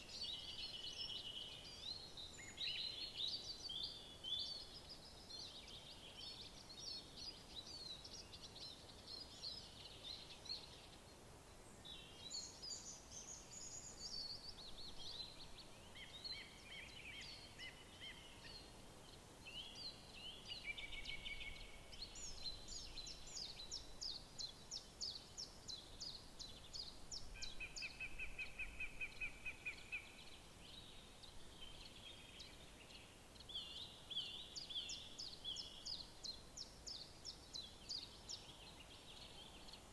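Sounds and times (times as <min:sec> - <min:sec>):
faint steady background noise: 0:00.0 - 0:39.9
songbirds singing: 0:00.0 - 0:39.9.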